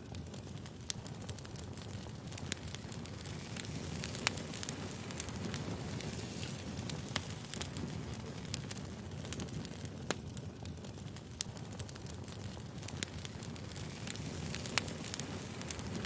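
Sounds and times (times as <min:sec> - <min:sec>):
fire rumbling: 0:00.0 - 0:16.0
wood popping and crackling: 0:00.0 - 0:16.0.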